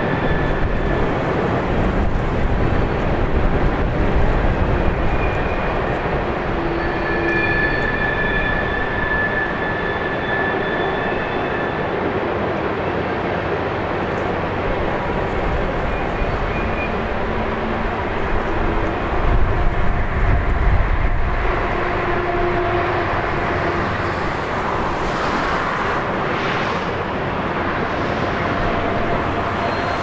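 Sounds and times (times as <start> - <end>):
train rumbling over steel bridge: 0.0 - 30.0.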